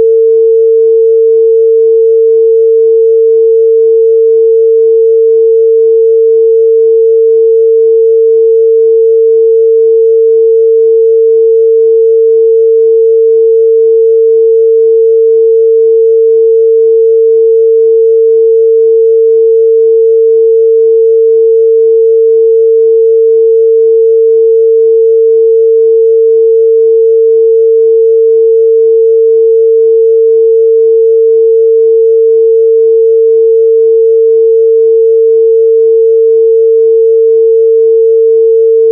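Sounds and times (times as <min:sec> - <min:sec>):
sine wave test tone: 0:00.0 - 0:38.9.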